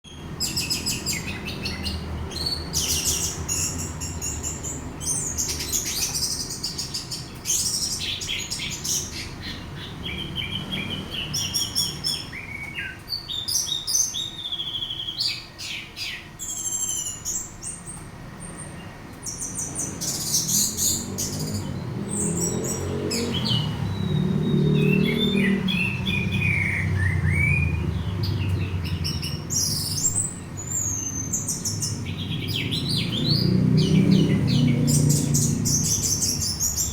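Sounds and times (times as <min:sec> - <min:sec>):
bird singing: 0:00.0 - 0:36.9.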